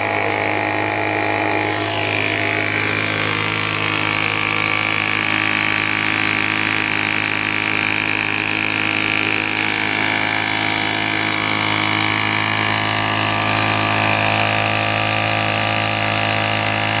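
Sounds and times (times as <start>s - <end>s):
blower whine: 0.0s - 17.0s
leaf blower engine running: 0.0s - 17.0s.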